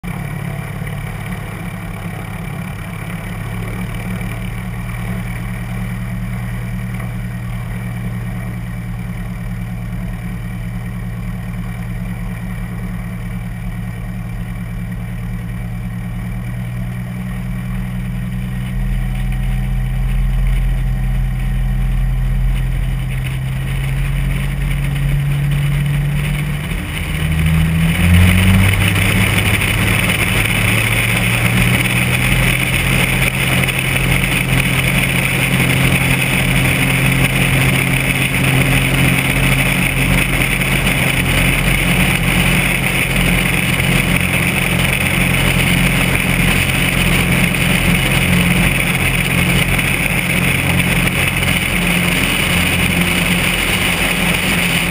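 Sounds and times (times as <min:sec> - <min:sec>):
light airplane engine droning: 0:00.0 - 0:54.9.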